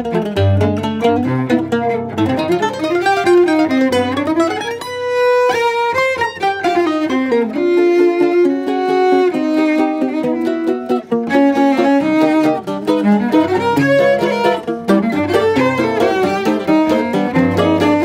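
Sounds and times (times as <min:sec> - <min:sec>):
bowed cello: 0:00.0 - 0:18.0
plucked bandolim notes: 0:00.0 - 0:18.0.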